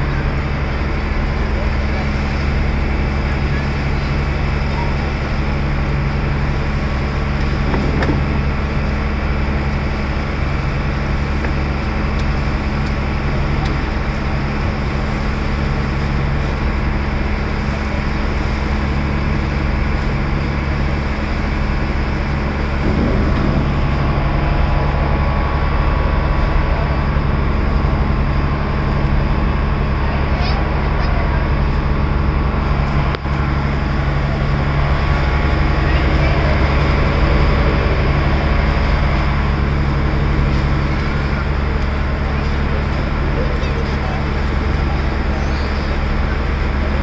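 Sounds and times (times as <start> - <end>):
boat engine droning: 0.0 - 47.0
water rushing: 0.0 - 47.0
wind: 0.0 - 47.0.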